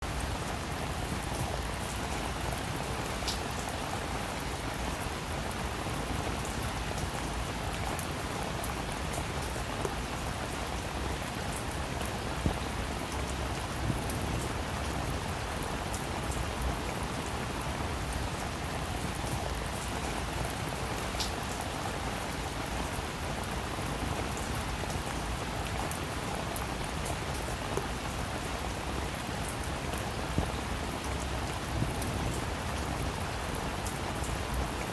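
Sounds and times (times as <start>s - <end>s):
rain pattering on a surface: 0.0s - 34.9s.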